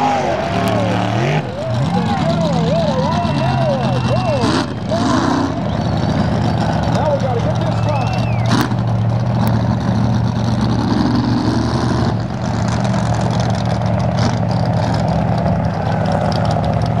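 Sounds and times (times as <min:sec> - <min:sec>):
boat engine idling: 0:00.0 - 0:10.8, 0:12.2 - 0:17.0.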